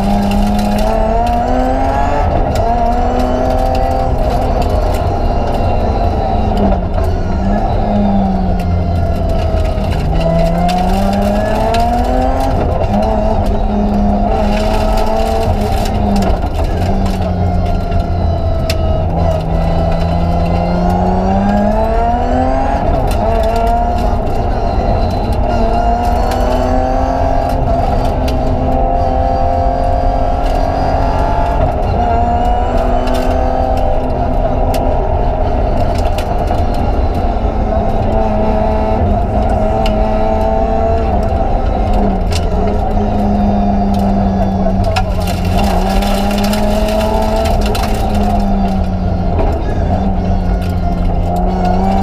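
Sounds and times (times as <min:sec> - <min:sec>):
rally car engine revving: 0:00.0 - 0:52.0
road and drivetrain drone: 0:00.0 - 0:52.0.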